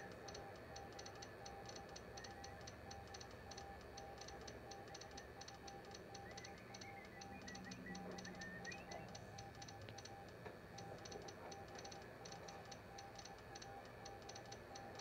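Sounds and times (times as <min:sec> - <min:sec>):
fast even ticking: 0:00.0 - 0:15.0
morse code beeping: 0:00.0 - 0:15.0.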